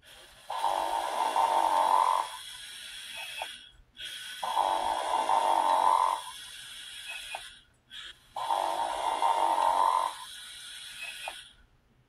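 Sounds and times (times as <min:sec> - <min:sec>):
toy snoring with squeaky whistle: 0:00.0 - 0:11.6.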